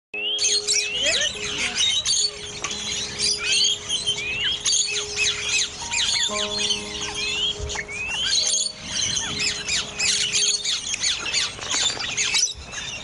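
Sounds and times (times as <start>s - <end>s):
small birds chirping and twittering: 0.2s - 13.0s.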